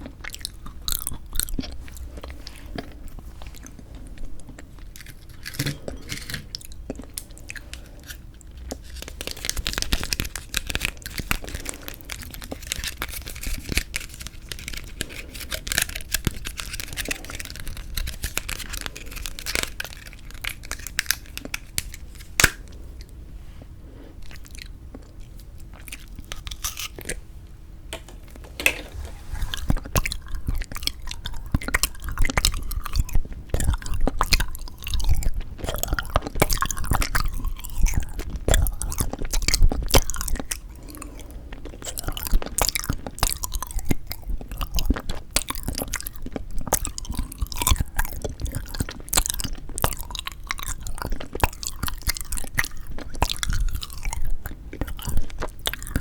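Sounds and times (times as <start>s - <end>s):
crunchy chewing: 0.0s - 23.2s, 24.0s - 27.3s, 28.2s - 56.0s.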